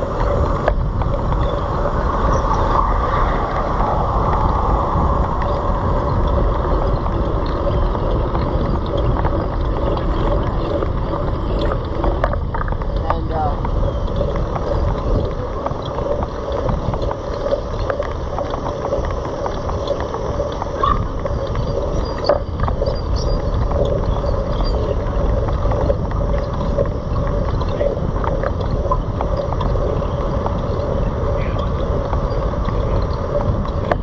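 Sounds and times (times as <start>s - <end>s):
bike rattles and clicks: 0.0s - 34.0s
wind rumble on microphone: 0.0s - 34.0s.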